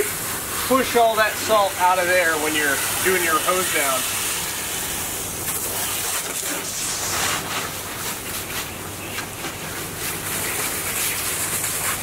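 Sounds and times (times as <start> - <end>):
hose water spraying on hull: 0.0 - 12.0.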